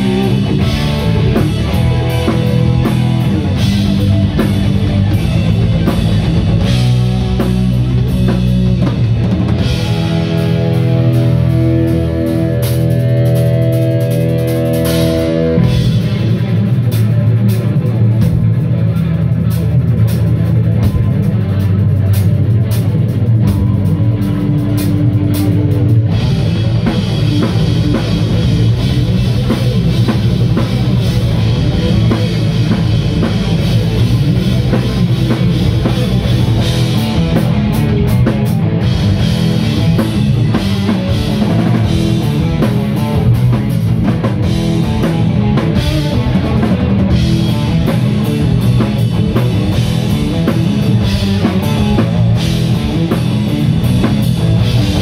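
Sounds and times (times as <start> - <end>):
drum kit: 0.0 - 55.0
electric guitars playing: 0.0 - 55.0.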